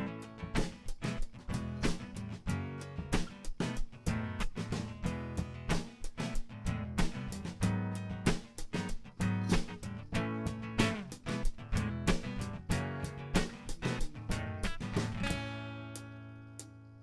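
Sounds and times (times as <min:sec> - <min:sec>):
drums and percussion beat: 0:00.0 - 0:15.5
guitar chords strummed: 0:00.0 - 0:17.0.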